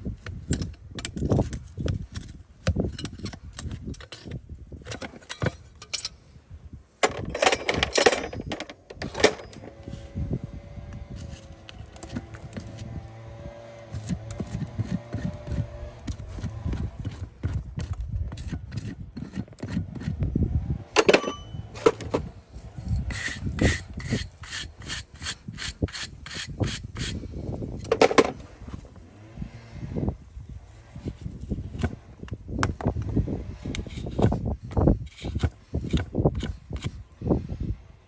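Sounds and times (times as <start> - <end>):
hand tool scraping and rubbing: 0.6 - 6.4, 7.4 - 20.2, 21.0 - 28.8, 32.9 - 37.1.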